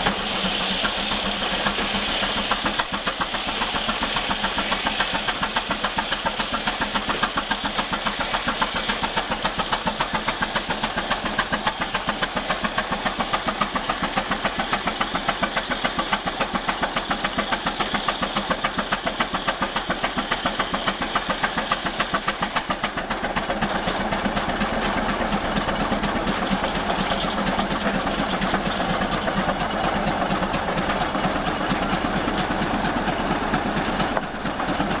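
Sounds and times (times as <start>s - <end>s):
tractor engine exhaust beat: 0.0s - 35.0s.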